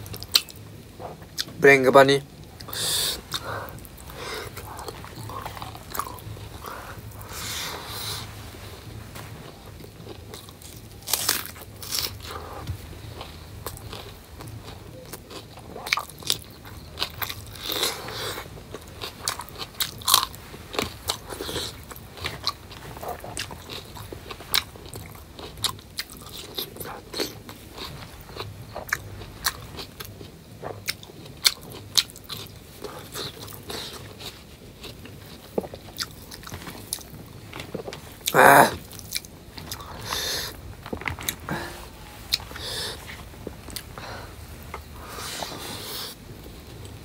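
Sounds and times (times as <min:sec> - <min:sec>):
person chewing and crunching: 0:00.0 - 0:01.6, 0:02.4 - 0:47.0.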